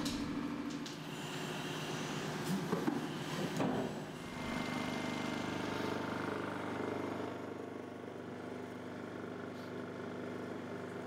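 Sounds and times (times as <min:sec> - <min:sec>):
mechanical running hum: 0:00.0 - 0:11.0.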